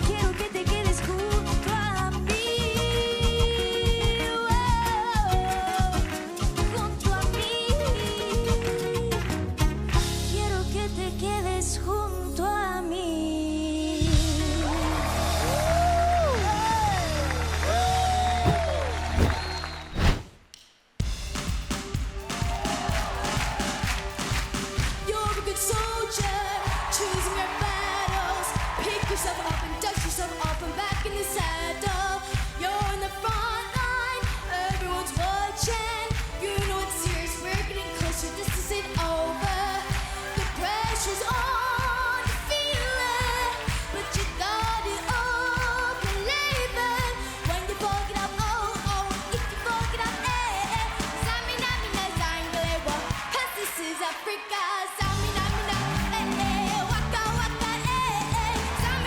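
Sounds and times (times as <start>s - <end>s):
pop song with singer: 0.0s - 18.6s, 22.3s - 59.0s.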